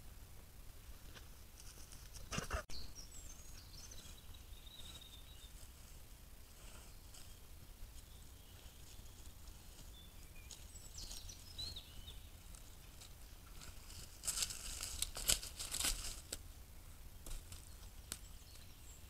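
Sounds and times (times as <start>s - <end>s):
dry leaves and twigs crackling: 0.9s - 19.0s.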